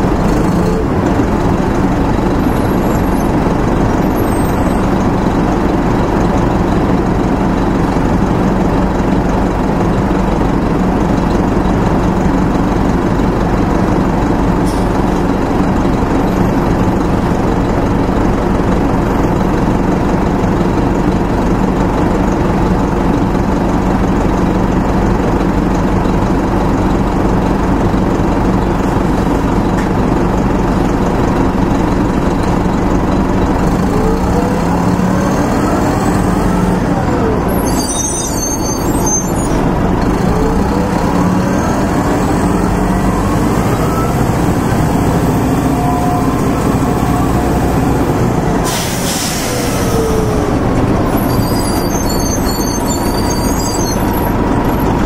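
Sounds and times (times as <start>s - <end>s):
diesel bus engine accelerating: 0.0s - 55.0s.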